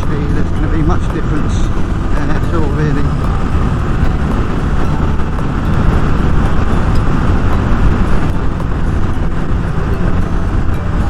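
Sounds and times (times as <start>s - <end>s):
motorcycle road noise: 0.0s - 11.0s
wind rush in helmet: 0.0s - 11.0s.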